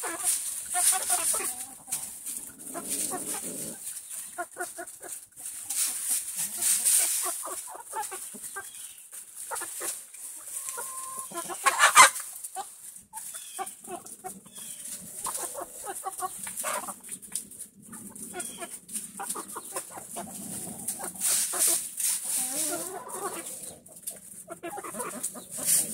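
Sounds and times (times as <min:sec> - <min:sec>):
hens clucking softly: 0:00.0 - 0:25.9
rustling wood chips: 0:00.0 - 0:25.9.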